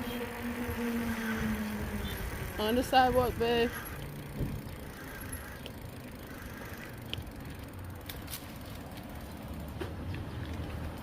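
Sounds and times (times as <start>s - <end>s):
bicycle road and wind noise: 0.0s - 11.0s.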